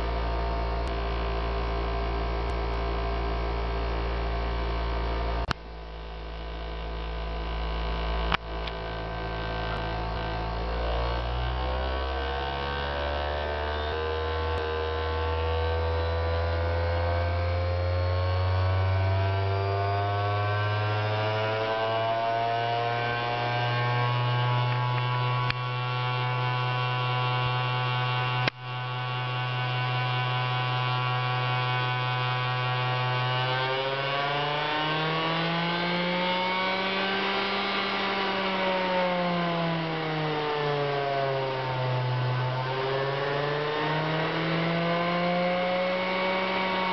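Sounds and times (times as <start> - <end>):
electric motor whine: 0.0 - 46.9.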